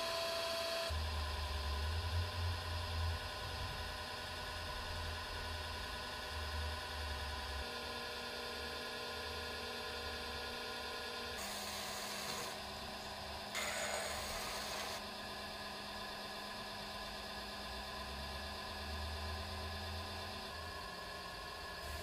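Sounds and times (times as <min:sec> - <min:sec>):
pottery wheel motor humming: 0:00.0 - 0:22.0.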